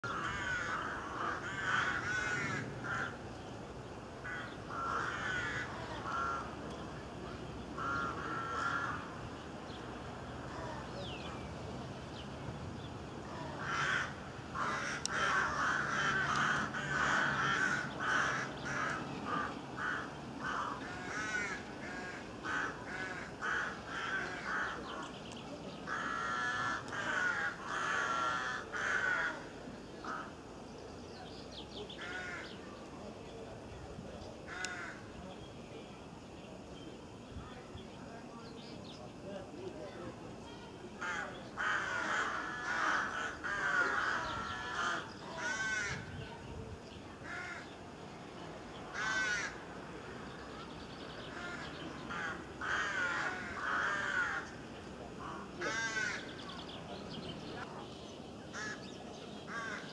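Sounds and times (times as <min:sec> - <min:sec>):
birds calling: 0:00.0 - 0:33.6, 0:40.8 - 0:59.9.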